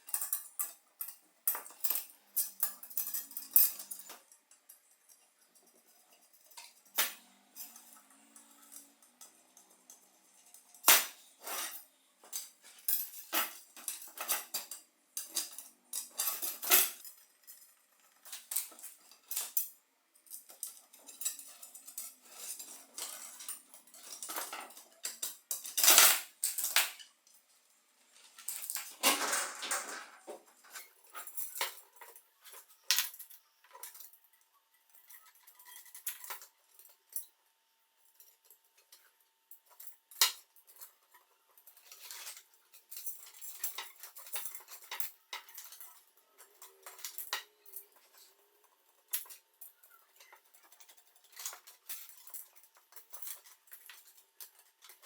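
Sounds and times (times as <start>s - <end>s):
metal parts and tools clinking: 0.0s - 27.5s, 28.2s - 37.4s, 38.0s - 55.0s.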